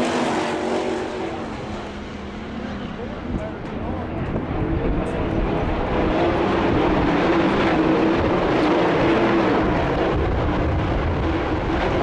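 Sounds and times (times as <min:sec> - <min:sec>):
race car engines at speed: 0:00.0 - 0:12.0.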